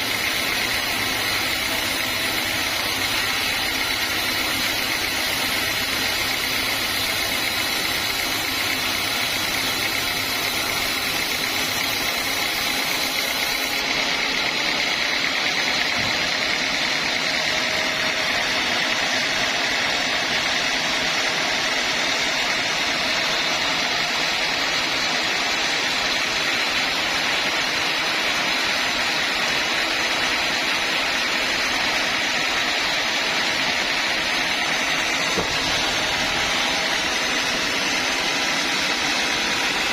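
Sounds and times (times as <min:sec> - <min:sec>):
band sawmill drone: 0:00.0 - 0:39.9
saw blade high whine: 0:00.0 - 0:39.9.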